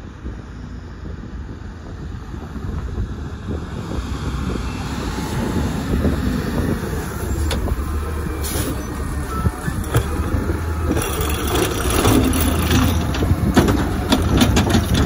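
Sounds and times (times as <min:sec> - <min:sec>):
garbage truck engine rumbling: 0:00.2 - 0:15.0.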